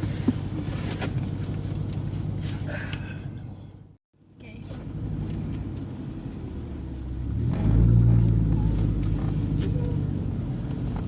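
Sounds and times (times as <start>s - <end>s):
car engine and exhaust at low revs: 0.0s - 11.0s.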